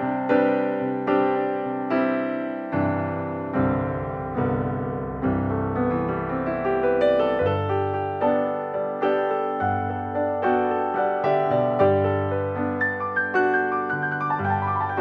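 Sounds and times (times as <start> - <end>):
calm slow piano music: 0.0 - 15.0.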